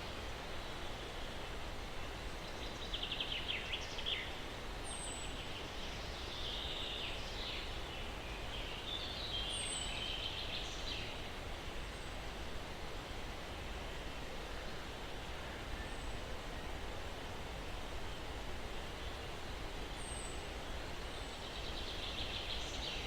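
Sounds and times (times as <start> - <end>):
wind in pine trees: 0.0 - 23.0.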